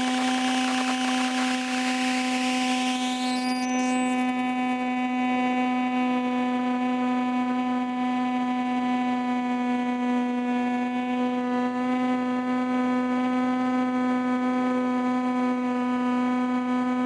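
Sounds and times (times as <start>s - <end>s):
model plane motor humming: 0.0s - 17.0s.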